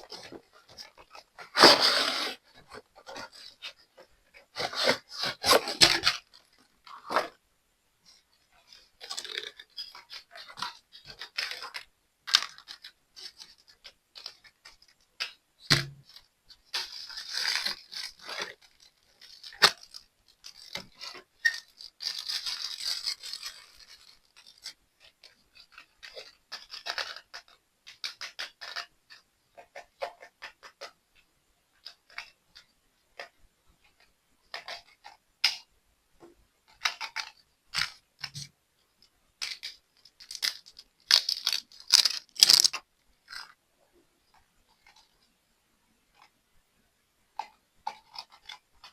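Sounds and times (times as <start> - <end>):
rustling and scraping: 0.0 - 7.4, 8.0 - 35.2, 36.2 - 45.4, 47.3 - 48.9.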